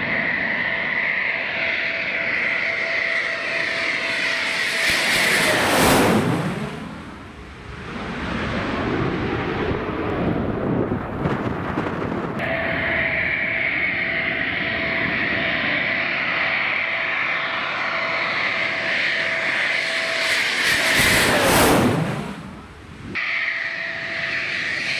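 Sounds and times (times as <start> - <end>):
jet passing close by: 0.0 - 24.9.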